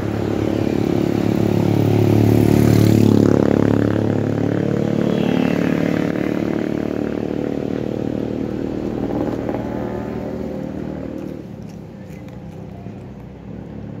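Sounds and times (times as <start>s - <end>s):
motorcycle engine passing: 0.0s - 12.3s.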